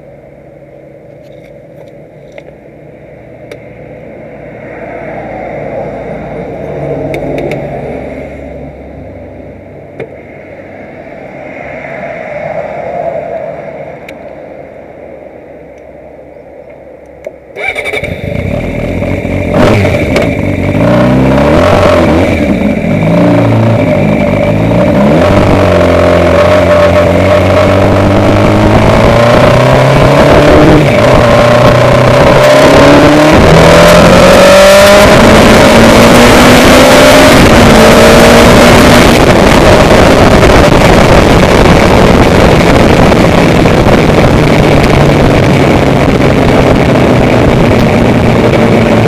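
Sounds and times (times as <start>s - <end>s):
vehicles passing in traffic: 0.0s - 49.0s
loud engine noise: 1.2s - 16.2s, 17.0s - 49.0s.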